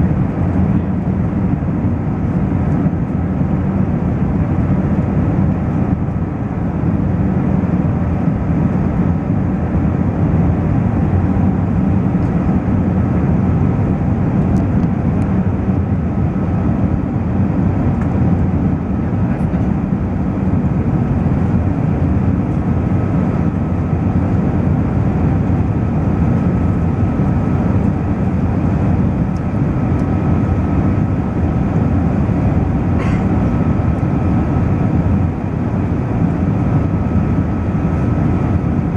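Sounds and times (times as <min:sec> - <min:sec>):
jet airliner rumble: 0:00.0 - 0:38.9.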